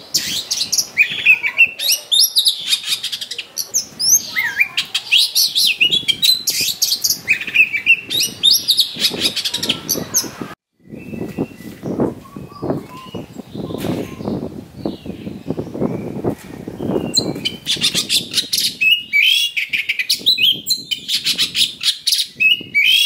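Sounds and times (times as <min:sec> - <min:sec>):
bird singing whistled song: 0:00.1 - 0:16.2, 0:16.8 - 0:23.0.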